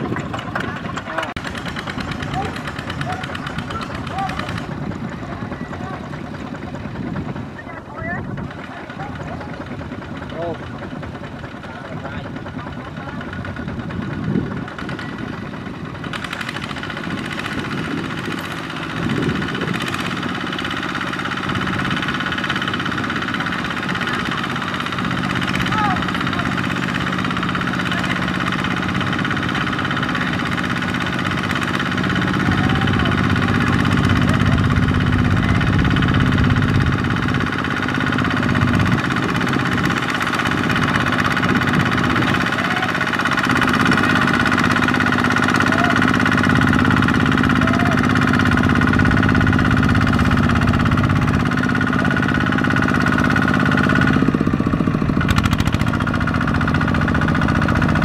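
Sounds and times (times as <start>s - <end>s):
diesel engine knocking under load: 0.0s - 58.0s
wheels churning through mud: 0.0s - 58.0s.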